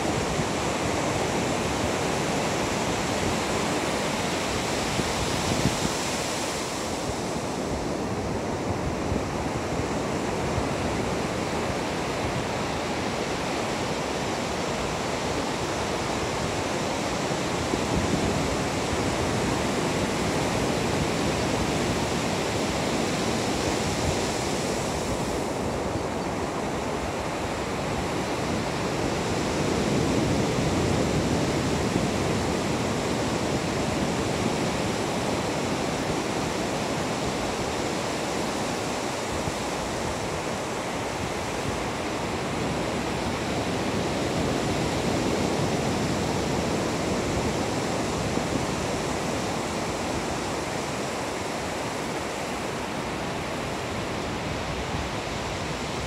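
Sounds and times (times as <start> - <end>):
surf breaking on a beach: 0.0 - 56.0.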